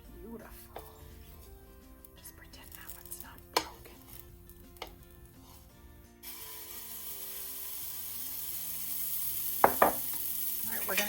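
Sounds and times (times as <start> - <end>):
batter sizzling on griddle: 0.8 - 11.0.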